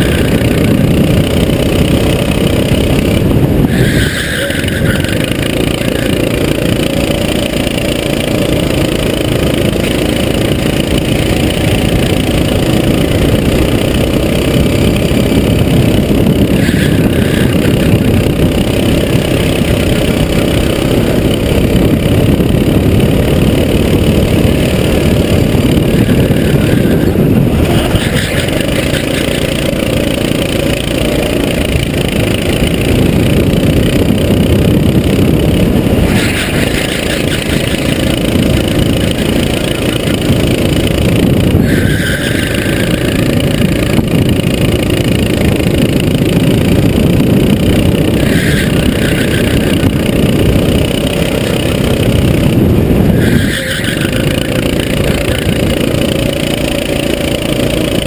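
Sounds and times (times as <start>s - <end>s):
go-kart engine running hard: 0.0s - 58.0s.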